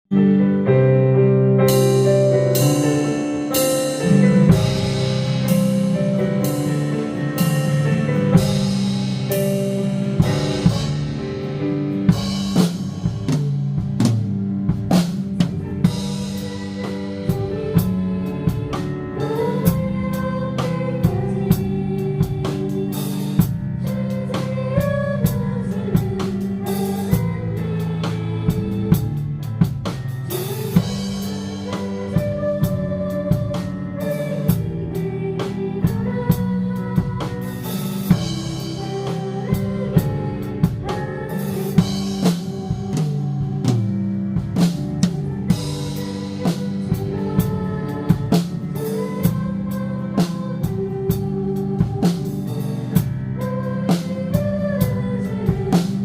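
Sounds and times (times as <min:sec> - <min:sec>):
band playing praise song: 0:01.5 - 0:56.0
drum kit beat: 0:01.6 - 0:56.0.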